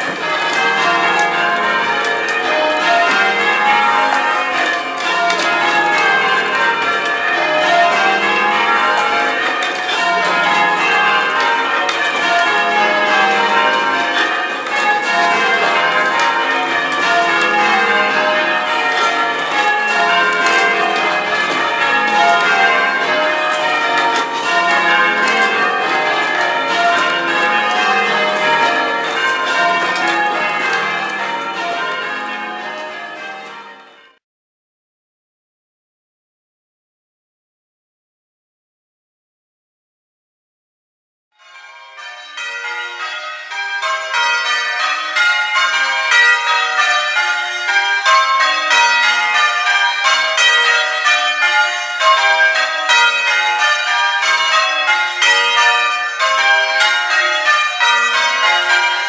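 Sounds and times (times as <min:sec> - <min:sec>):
church bells ringing: 0:00.0 - 0:34.2, 0:41.4 - 0:59.0.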